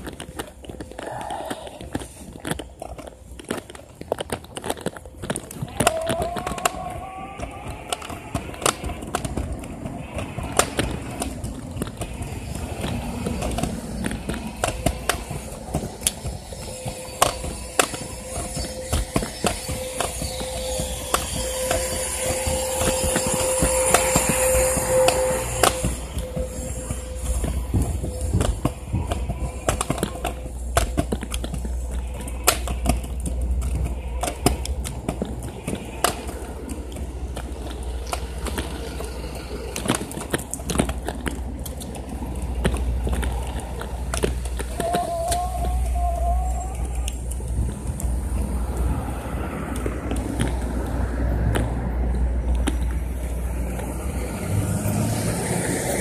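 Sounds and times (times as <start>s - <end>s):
scooter wheels rolling on concrete: 0.0s - 56.0s.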